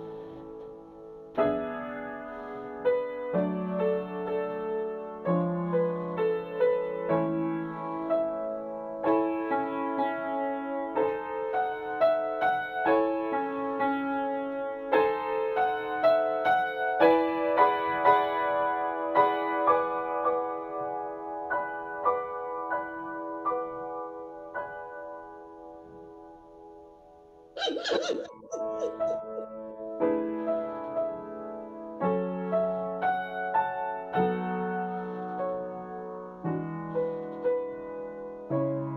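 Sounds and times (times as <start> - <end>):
gentle piano melody: 0.0 - 38.9.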